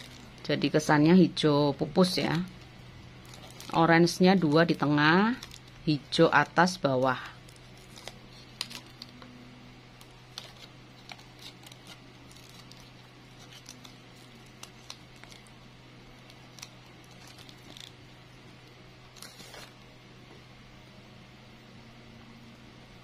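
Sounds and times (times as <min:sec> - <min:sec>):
crinkling plastic rustle: 0:00.0 - 0:00.9, 0:01.9 - 0:19.8.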